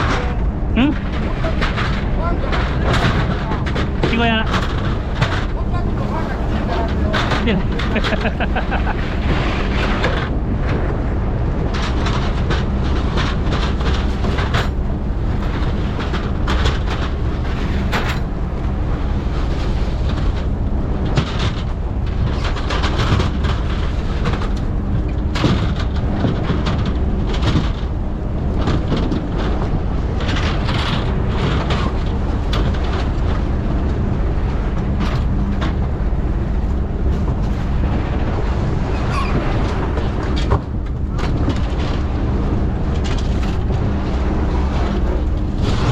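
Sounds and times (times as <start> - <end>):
boat engine rumbling: 0.0 - 45.9.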